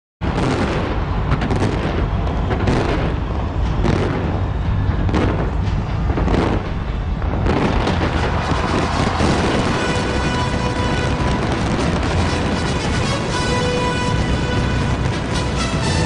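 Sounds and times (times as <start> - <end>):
fireworks booms and crackling: 0.2 - 16.0.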